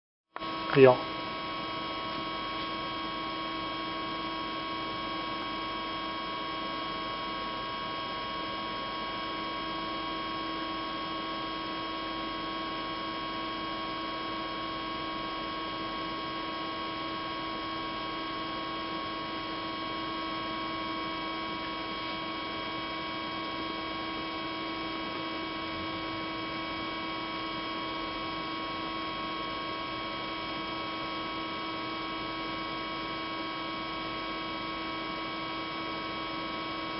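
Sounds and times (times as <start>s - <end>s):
steady electrical hum: 0.4s - 36.9s.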